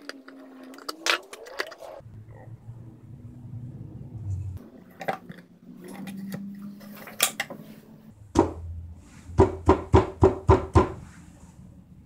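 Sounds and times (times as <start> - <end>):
low steady hum: 2.0 - 12.0.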